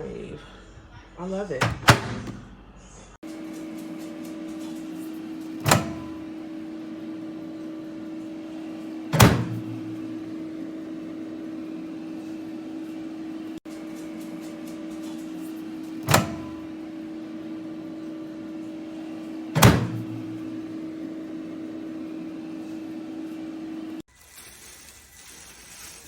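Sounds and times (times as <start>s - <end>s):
microwave oven hum: 1.6s - 24.0s.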